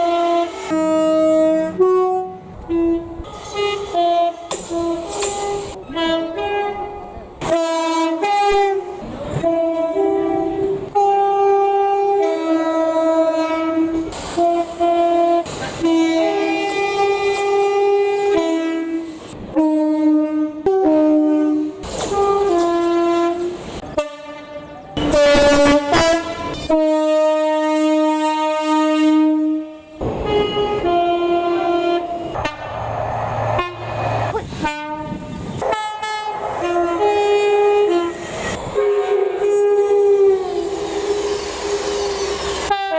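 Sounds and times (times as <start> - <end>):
train horns playing a tune: 0.0 - 42.9.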